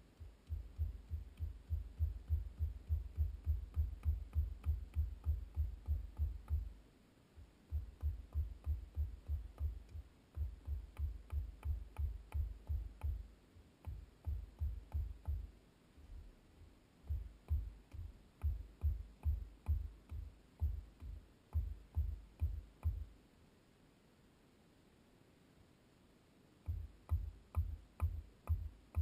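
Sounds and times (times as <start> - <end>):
ticking hi-hats: 0.0 - 6.8, 7.4 - 15.5, 17.0 - 23.1, 26.6 - 29.0.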